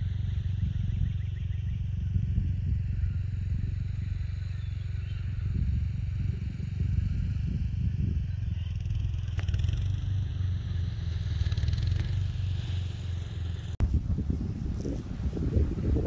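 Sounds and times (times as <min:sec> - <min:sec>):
wind buffeting microphone: 0:00.0 - 0:12.6, 0:13.7 - 0:16.0.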